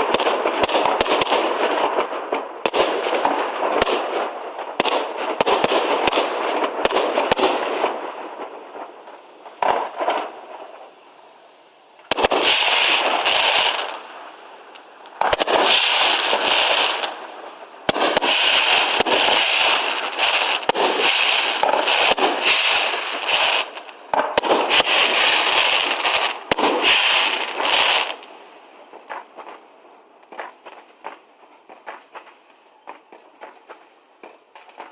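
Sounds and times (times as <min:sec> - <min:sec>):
firework shells bursting: 0:00.0 - 0:29.6
firework crackling: 0:00.0 - 0:34.9.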